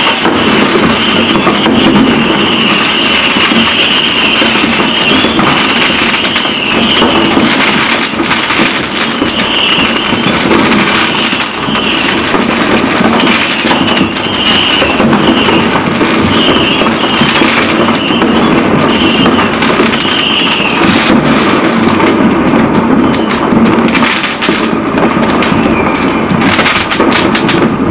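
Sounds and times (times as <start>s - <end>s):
fireworks crackling and banging: 0.0s - 27.9s
high firework whistles: 0.0s - 27.9s.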